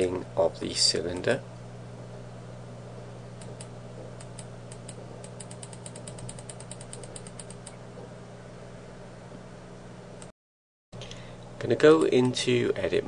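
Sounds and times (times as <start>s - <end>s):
low electrical hum: 0.0s - 10.3s, 11.0s - 13.0s.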